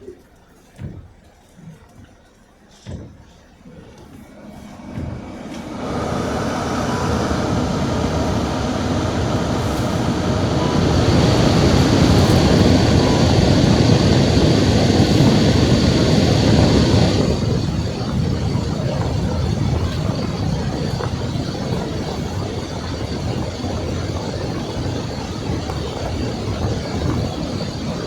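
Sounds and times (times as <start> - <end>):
car tyres and engine rumble: 2.6 - 28.0.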